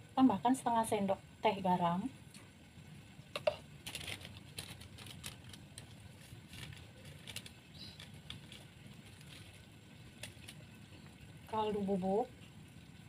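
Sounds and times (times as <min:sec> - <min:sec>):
stew bubbling in a wok: 0:00.0 - 0:13.0.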